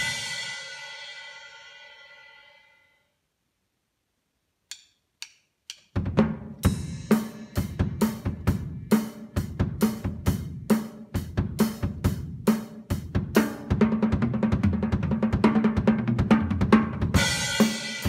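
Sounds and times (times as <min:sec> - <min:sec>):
drum kit playing: 0:00.0 - 0:02.4, 0:05.7 - 0:18.0.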